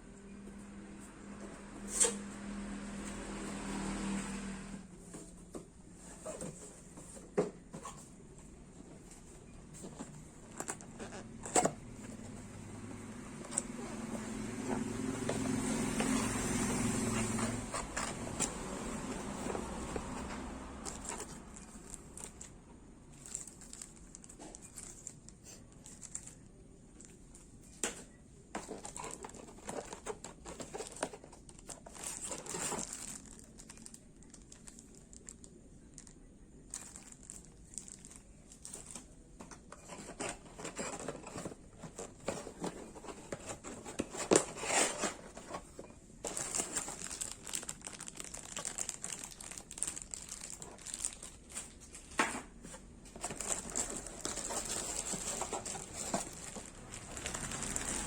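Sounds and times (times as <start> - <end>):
packaging crinkling and rustling: 5.1 - 58.0.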